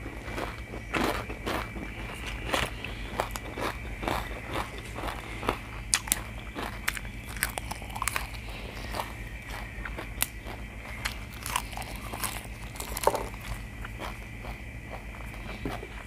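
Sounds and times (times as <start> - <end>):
crunching raw vegetables: 0.0 - 16.0.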